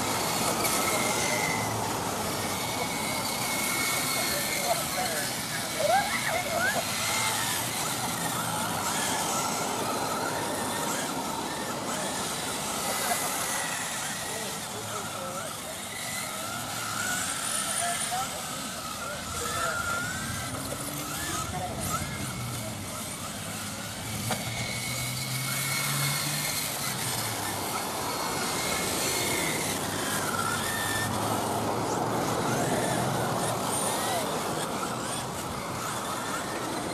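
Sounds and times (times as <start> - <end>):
rc car motors whining: 0.0 - 36.9.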